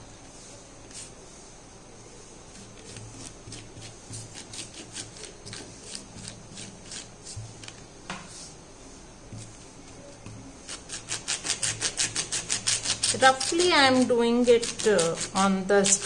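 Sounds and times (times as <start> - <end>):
paintbrush scrubbing metal: 0.2 - 7.6, 8.4 - 16.0.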